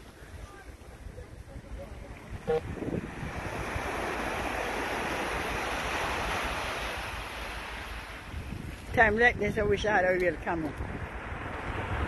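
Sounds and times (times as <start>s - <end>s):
sea waves washing onto shore: 0.0s - 12.0s
wind rumbling on microphone: 0.0s - 12.0s.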